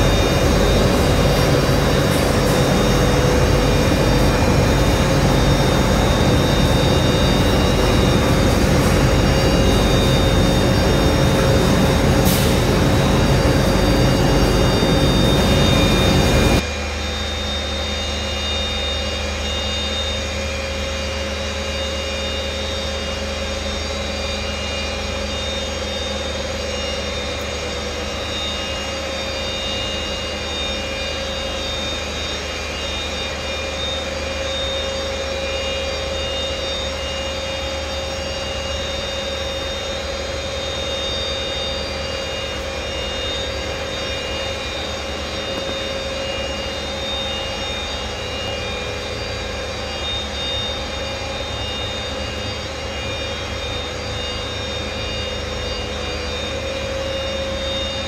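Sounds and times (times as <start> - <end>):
high-pitched machine whine: 0.0 - 58.0
machinery low drone: 0.0 - 58.0.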